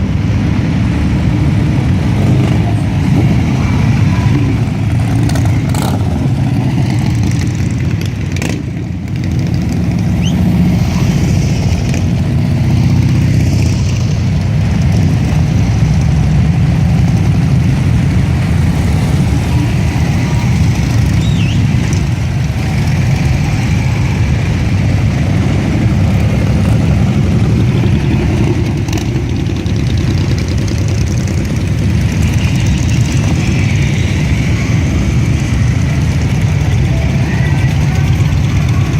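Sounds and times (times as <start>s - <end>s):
motorcycle engines rumbling: 0.0s - 38.9s.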